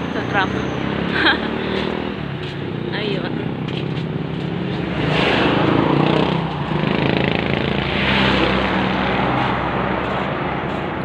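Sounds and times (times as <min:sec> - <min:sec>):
vehicles passing by: 0:00.0 - 0:11.0.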